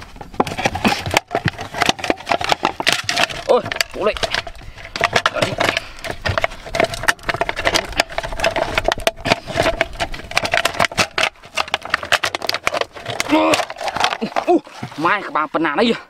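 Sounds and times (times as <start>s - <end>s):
hard plastic crackling and snapping: 0.0s - 14.9s.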